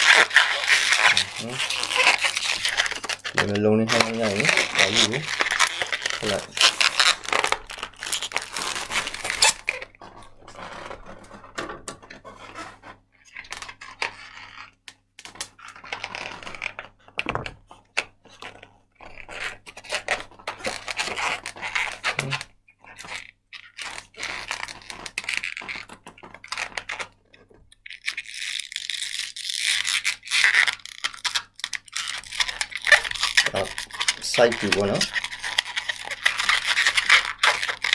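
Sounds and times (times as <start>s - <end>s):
balloon rubber rubbing and creaking: 0.0s - 37.9s.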